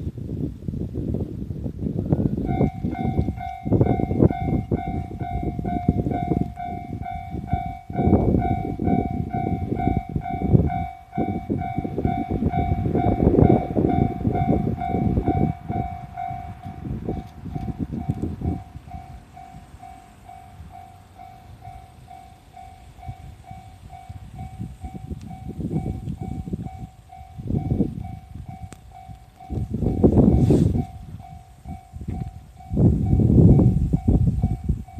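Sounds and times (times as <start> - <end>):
level crossing warning bell: 2.4 - 34.9.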